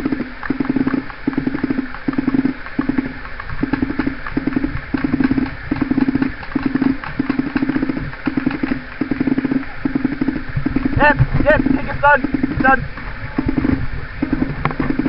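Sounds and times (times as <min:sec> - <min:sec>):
paintball markers firing bursts: 0:00.0 - 0:12.8.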